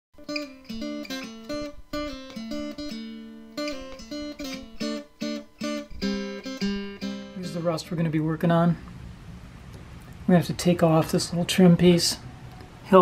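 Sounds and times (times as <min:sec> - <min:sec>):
acoustic guitar playing chords: 0:00.2 - 0:13.0.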